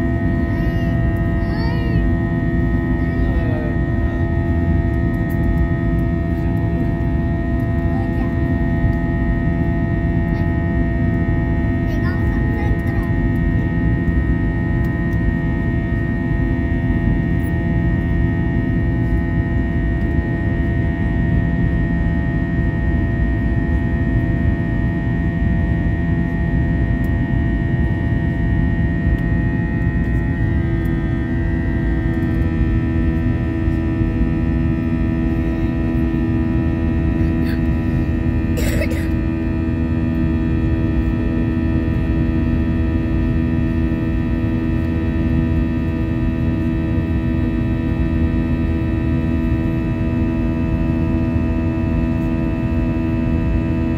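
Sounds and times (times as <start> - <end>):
jet engines droning: 0.0 - 53.9.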